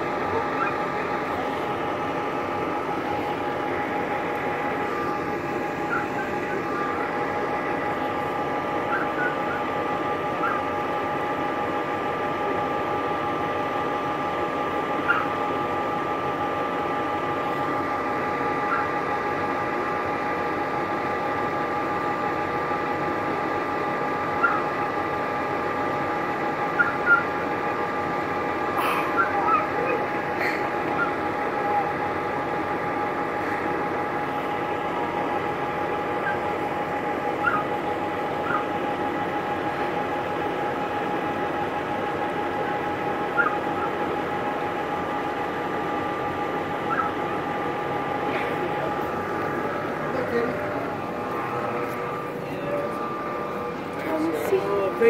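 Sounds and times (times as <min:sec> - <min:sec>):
fire engine idling: 0:00.0 - 0:55.0.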